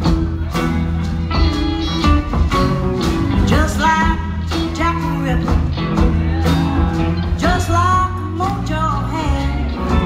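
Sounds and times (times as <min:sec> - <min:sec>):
bass guitar: 0:00.0 - 0:10.0
steady drum beat: 0:00.0 - 0:10.0.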